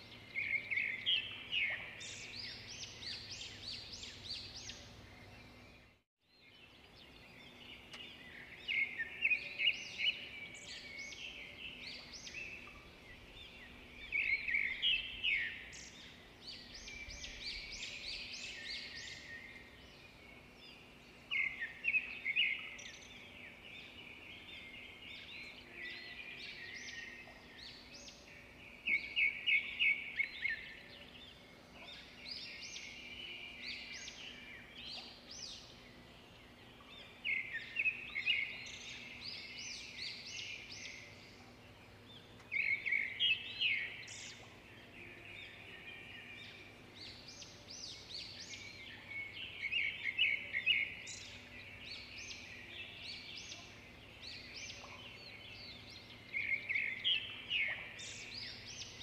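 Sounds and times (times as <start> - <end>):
songbirds singing bright phrases: 0.0 - 59.0.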